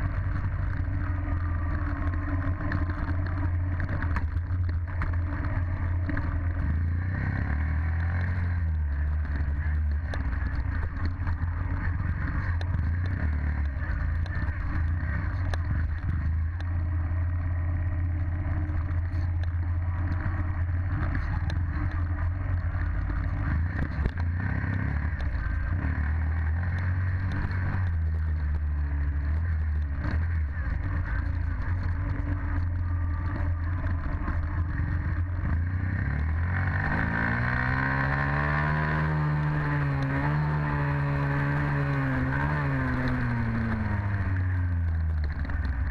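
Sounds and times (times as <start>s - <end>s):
dirt bike engine running: 0.0s - 45.9s.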